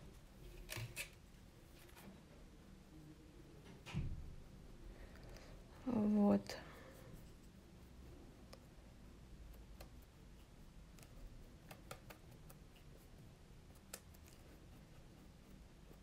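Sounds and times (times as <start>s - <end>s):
paintbrush clicks and scratches: 0.0s - 16.0s.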